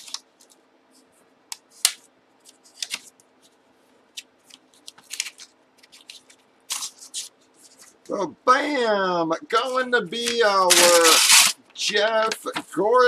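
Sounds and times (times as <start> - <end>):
paper envelope crinkling: 0.0 - 1.1, 1.7 - 8.1, 9.5 - 13.0.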